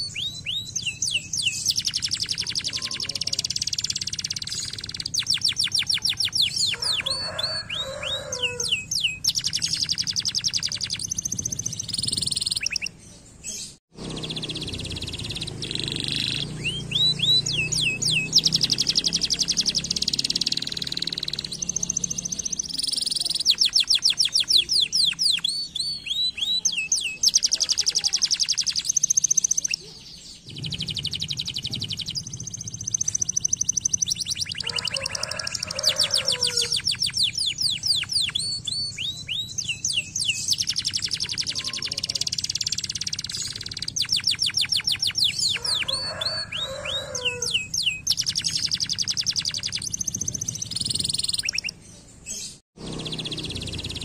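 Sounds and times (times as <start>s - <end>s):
canary singing trills and whistles: 0.0s - 54.0s.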